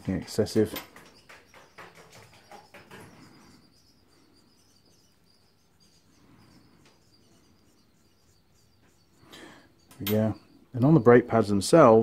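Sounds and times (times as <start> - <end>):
paint brush brushing and tapping: 0.0 - 11.4
faint high chirping: 0.2 - 11.5.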